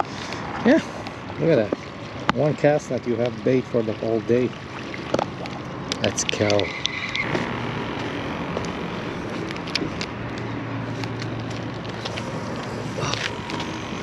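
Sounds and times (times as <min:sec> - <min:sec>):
outdoor background noise: 0:00.0 - 0:14.0
vehicle engine humming: 0:00.0 - 0:14.0.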